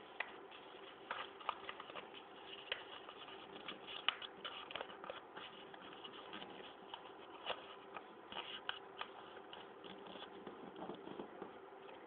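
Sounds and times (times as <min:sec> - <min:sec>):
faint steady hum: 0:00.0 - 0:12.0
paper being folded and creased: 0:00.1 - 0:11.3.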